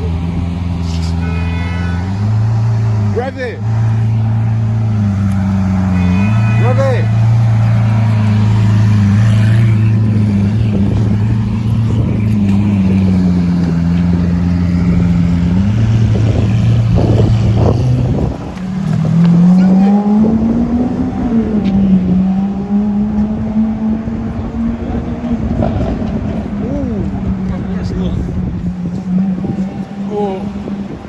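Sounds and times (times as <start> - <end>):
car engine idling with deep drone: 0.0 - 31.0
exhaust crackles: 0.0 - 31.0.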